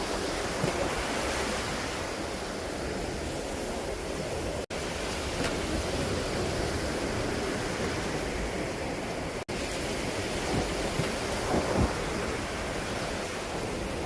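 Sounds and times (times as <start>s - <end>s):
breaking surf: 0.0s - 14.0s
strong wind buffeting microphone: 0.0s - 14.0s.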